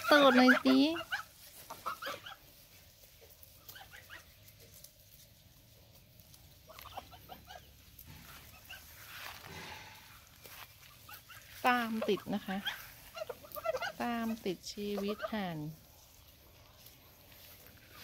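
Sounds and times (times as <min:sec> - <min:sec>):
geese soft calls: 0:00.0 - 0:04.6, 0:06.5 - 0:18.0
geese tearing at grass: 0:00.0 - 0:18.0.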